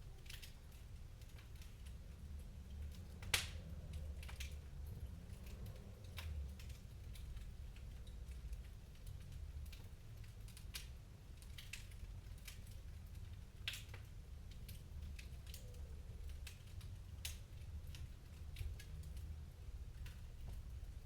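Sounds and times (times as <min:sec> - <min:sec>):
low steady rumble: 0:00.0 - 0:21.0
wood fire crackling: 0:00.0 - 0:21.0.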